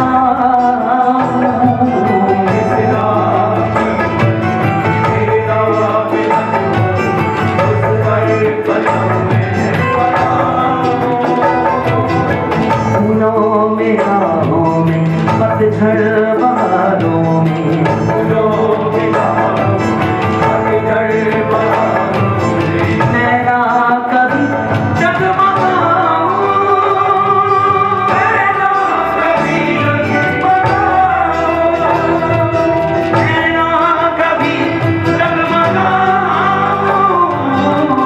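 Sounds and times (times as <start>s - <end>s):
backing singers: 0.0s - 38.0s
instrumental accompaniment: 0.0s - 38.0s
man singing devotional song: 0.0s - 38.0s.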